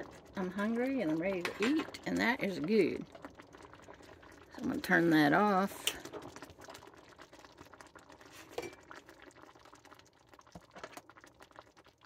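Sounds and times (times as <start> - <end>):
sauce bubbling faintly: 0.0 - 12.0.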